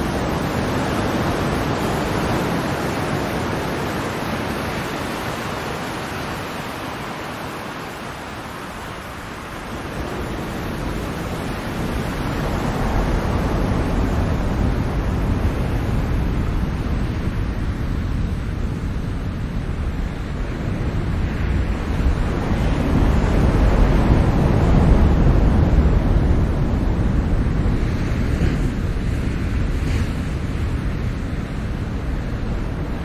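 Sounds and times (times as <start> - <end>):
ocean surf washing in: 0.0 - 33.0.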